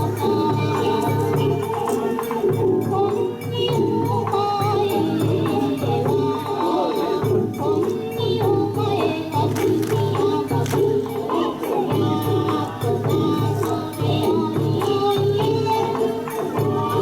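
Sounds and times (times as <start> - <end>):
steady percussion: 0.0 - 17.0.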